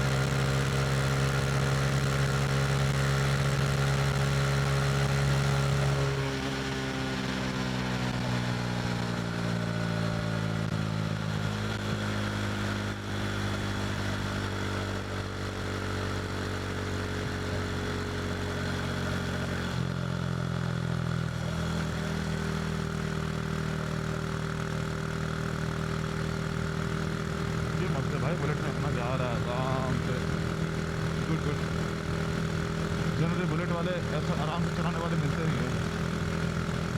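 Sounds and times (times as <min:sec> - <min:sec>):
motorcycle engine revving down: 0:00.0 - 0:36.9.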